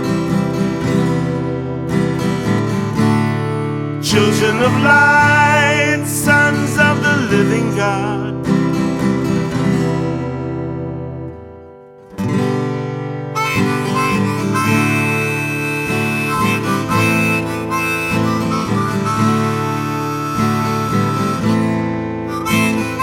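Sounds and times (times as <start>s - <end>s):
harmonica melody: 0.0s - 10.5s, 13.2s - 23.0s
acoustic guitar strumming: 0.0s - 23.0s.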